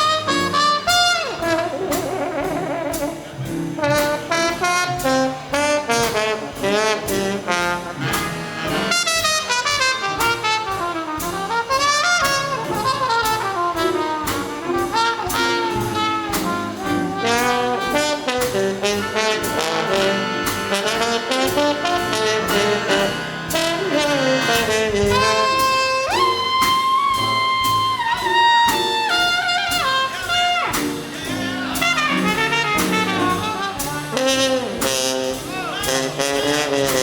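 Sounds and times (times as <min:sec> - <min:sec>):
big band playing swing jazz: 0:00.0 - 0:37.0.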